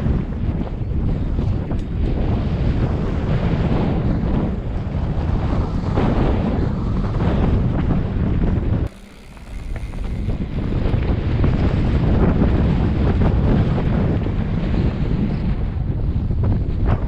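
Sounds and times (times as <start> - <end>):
bike rattling over bumps: 0.0 - 14.8
wind on microphone: 0.0 - 17.0.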